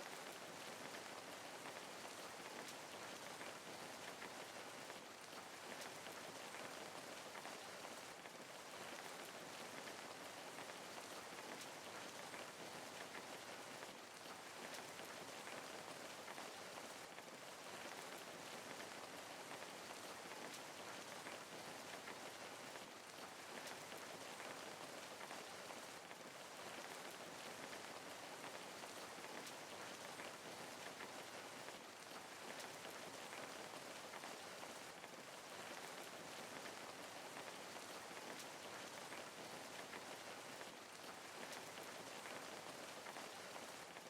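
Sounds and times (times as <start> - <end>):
rain pattering on a surface: 0.0 - 44.0.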